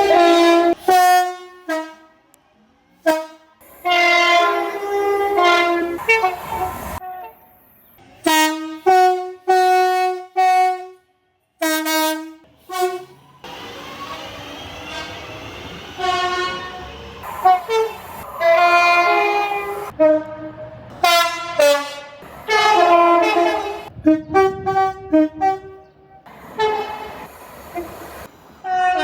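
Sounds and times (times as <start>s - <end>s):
train horn blasts: 0.0s - 2.3s, 3.0s - 7.5s, 8.2s - 13.2s, 14.8s - 28.0s, 28.6s - 29.0s.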